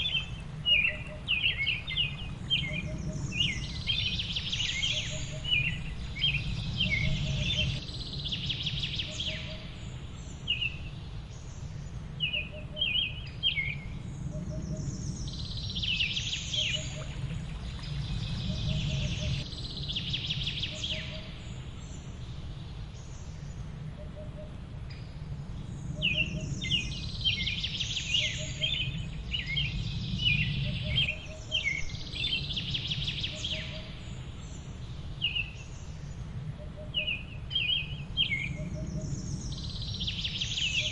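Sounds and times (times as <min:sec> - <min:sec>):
low background rumble: 0:00.0 - 0:40.9
songbirds chirping: 0:00.0 - 0:40.9.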